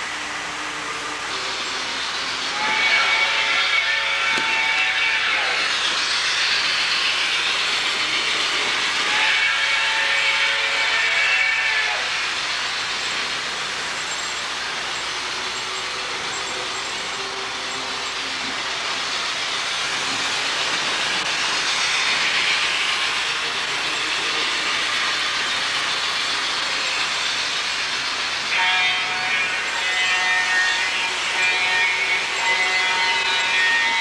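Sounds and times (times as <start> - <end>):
model train motors whirring: 0.0 - 34.0.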